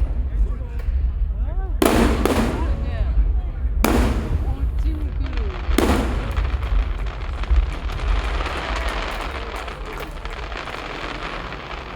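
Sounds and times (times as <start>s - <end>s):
firework boom: 0.0s - 11.9s
firework crackle: 0.0s - 11.9s
low rumble: 0.0s - 11.9s.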